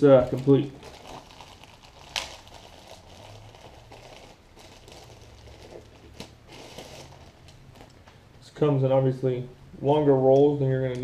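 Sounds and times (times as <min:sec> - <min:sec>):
faint low room hum: 0:00.0 - 0:11.0.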